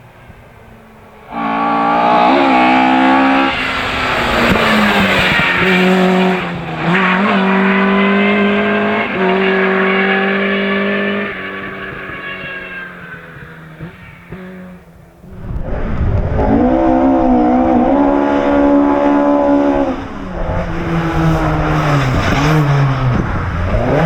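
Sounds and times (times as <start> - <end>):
rally car engine at high revs: 1.2 - 24.0.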